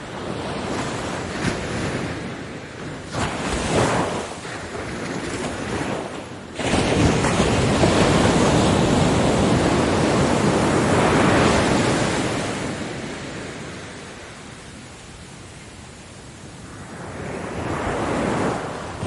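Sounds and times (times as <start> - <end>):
ocean wave breaking: 0.0 - 15.6, 16.2 - 19.0.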